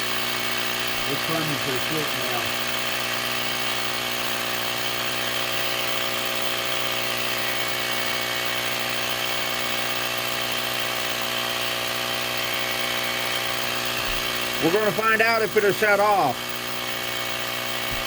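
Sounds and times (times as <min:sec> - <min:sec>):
portable tire inflator humming: 0:00.0 - 0:18.0.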